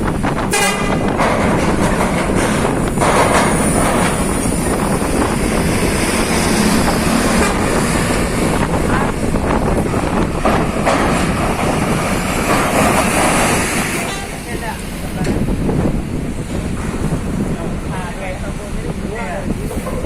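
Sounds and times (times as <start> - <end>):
heavy vehicles rumbling: 0.0 - 20.0.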